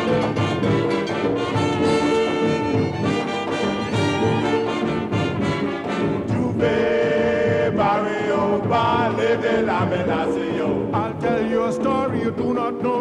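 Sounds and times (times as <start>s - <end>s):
up-tempo brass band music: 0.0s - 13.0s.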